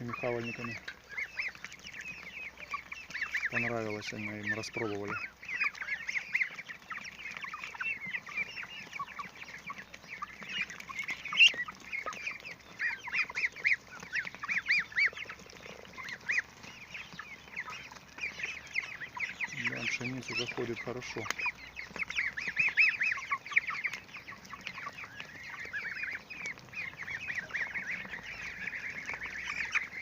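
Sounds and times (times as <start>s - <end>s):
chicks and ducklings peeping: 0.0s - 30.0s.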